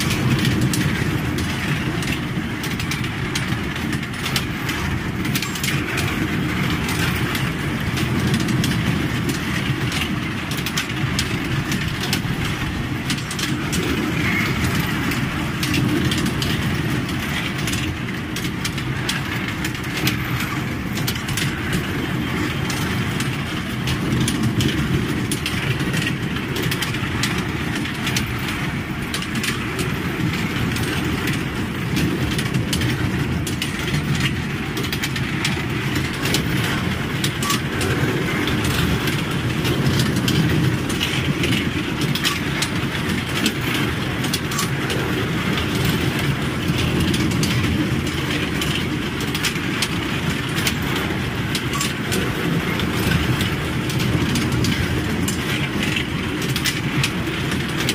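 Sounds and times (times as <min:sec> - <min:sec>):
small train rumbling on track: 0:00.0 - 0:57.9
wheels clicking and rattling: 0:00.0 - 0:57.9.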